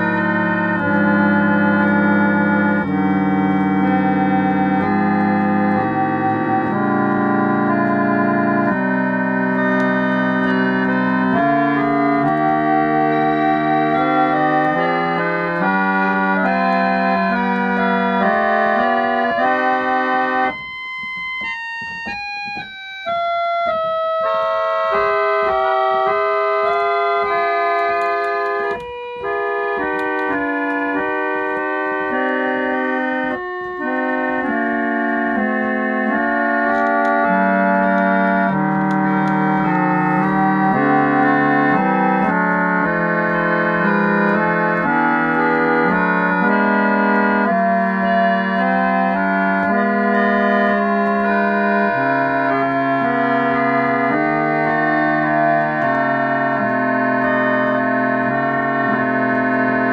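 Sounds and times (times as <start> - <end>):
reed organ playing sustained chords: 0.0 - 59.9.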